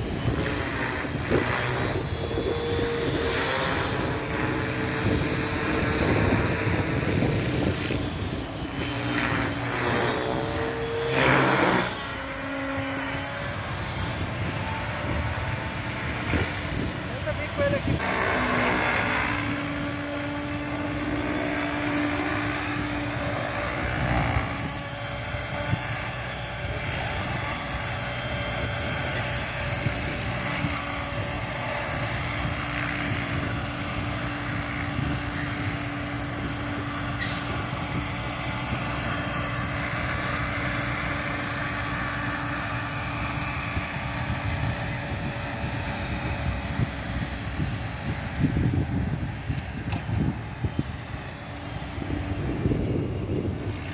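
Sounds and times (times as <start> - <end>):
electric helicopter rotor whine: 0.0 - 53.9.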